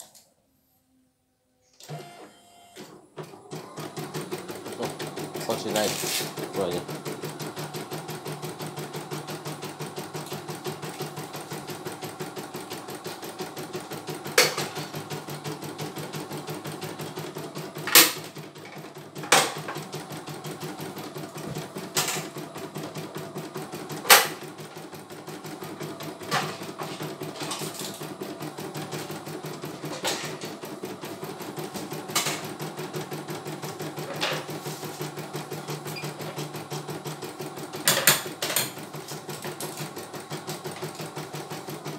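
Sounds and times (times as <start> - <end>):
embroidery machine needle stitching: 2.8 - 41.9.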